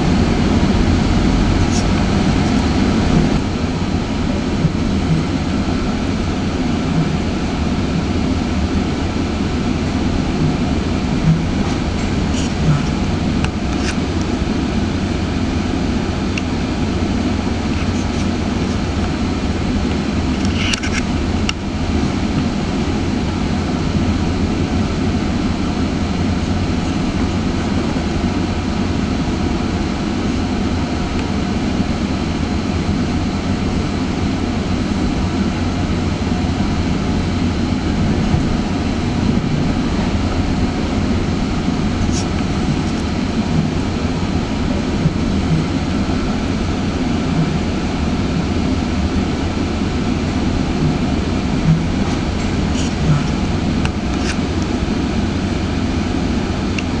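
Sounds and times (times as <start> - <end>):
train wheel and track noise: 0.0 - 57.0.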